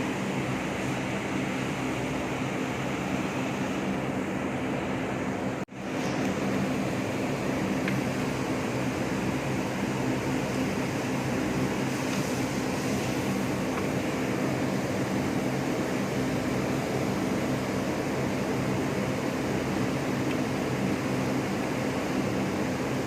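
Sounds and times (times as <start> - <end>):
mechanical hum: 0.0 - 23.0.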